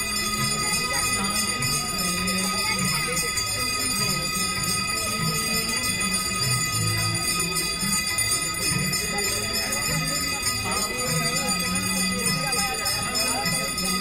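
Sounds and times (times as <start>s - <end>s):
temple bells ringing: 0.0s - 14.0s.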